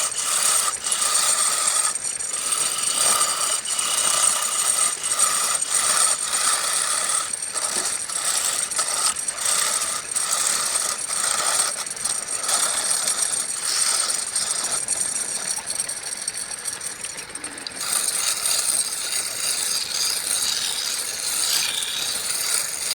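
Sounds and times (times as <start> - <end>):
wood lathe tool scraping: 0.0 - 23.0.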